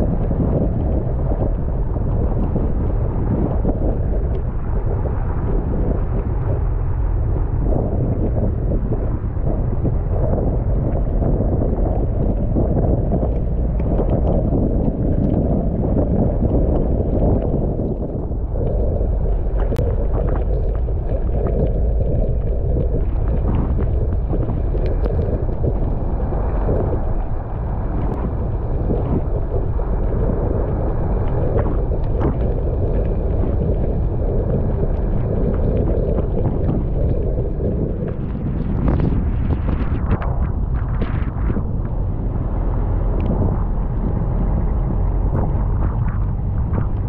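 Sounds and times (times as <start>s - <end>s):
rumbling track noise: 0.0s - 47.0s
wind buffeting microphone: 0.0s - 47.0s.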